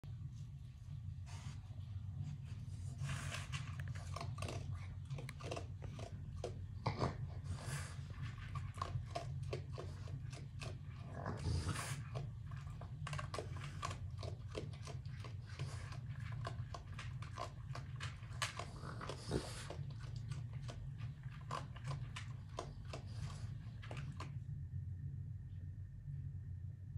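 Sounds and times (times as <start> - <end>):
steady low hum: 0.0 - 26.9
raccoons chewing and crunching: 1.4 - 24.6.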